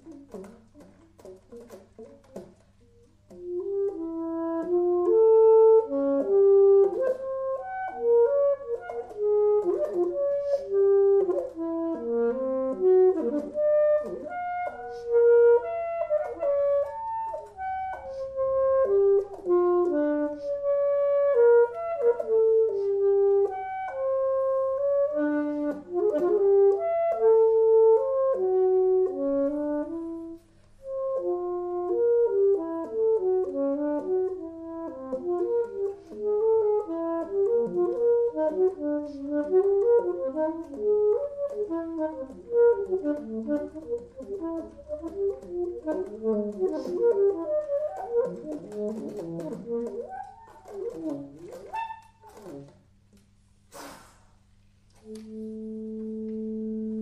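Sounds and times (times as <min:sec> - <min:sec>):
solo saxophone playing: 0:00.0 - 0:53.3, 0:54.0 - 0:57.0.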